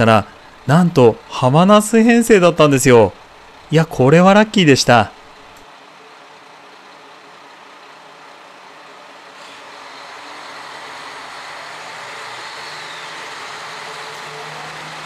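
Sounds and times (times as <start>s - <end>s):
diesel train running: 0.0s - 15.0s.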